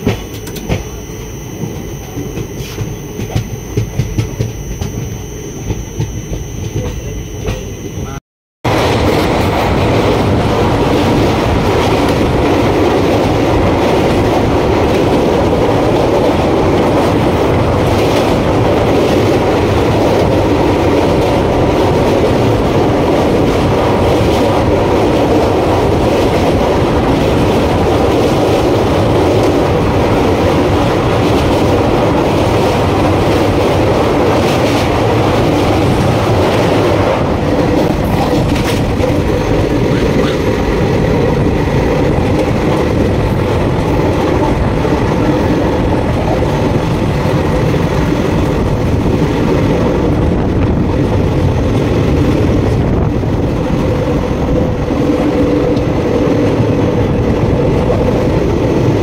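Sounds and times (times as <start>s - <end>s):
train clattering over bridge: 0.0s - 8.1s, 8.7s - 59.0s
train rumbling with knocks: 0.0s - 59.0s.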